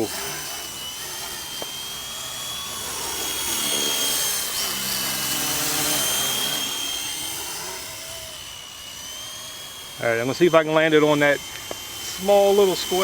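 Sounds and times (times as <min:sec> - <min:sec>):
rc helicopter whine: 0:00.0 - 0:13.0.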